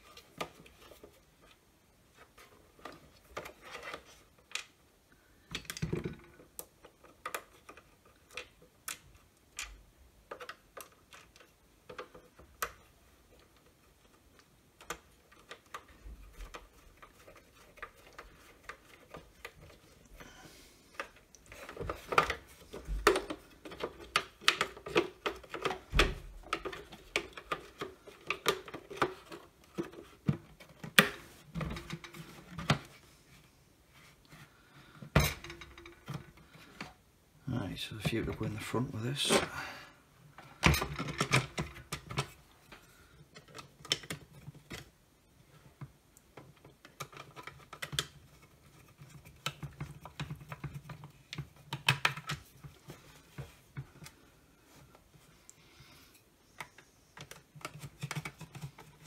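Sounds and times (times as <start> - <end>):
plastic parts clicking and rattling: 0.0 - 4.8, 5.4 - 33.1, 34.3 - 37.0, 40.4 - 55.3, 56.4 - 59.0.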